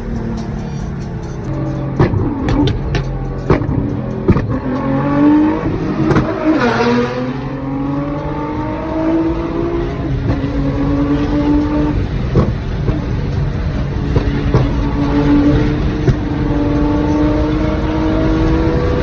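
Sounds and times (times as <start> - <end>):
sharp exhaust pops: 0.0 - 7.5, 8.1 - 19.0
car engine accelerating: 0.0 - 19.0.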